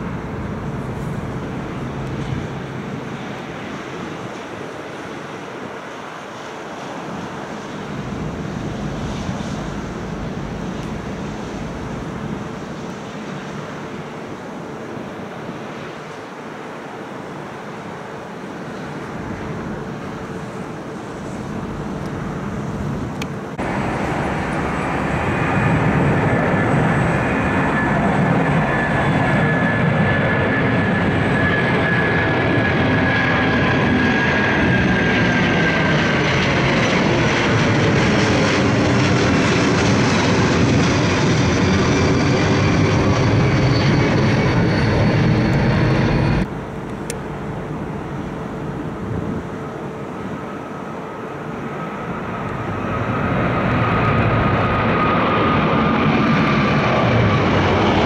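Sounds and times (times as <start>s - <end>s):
jet airliner climbing overhead: 0.0s - 58.0s.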